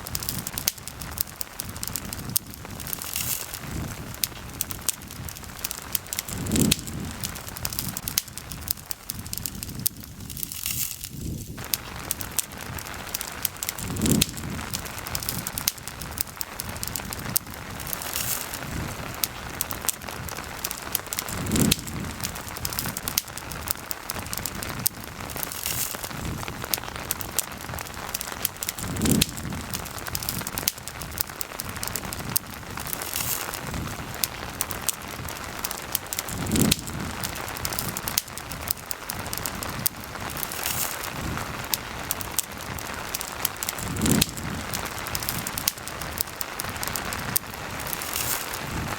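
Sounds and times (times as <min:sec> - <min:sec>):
campfire crackling: 0:00.0 - 0:48.9
steady rain falling: 0:00.0 - 0:48.9.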